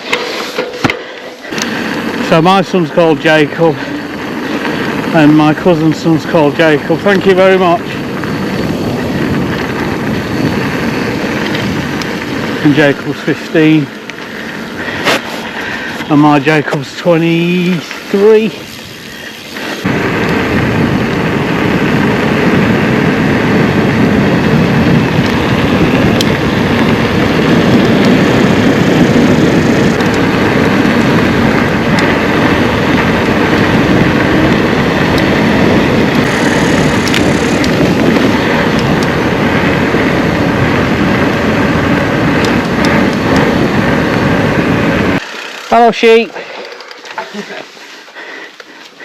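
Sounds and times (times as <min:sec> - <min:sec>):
wind rushing: 0:00.0 - 0:46.4
bike clicks and rattles: 0:00.0 - 0:49.0
bike tyre rumble on trail: 0:00.0 - 0:49.0.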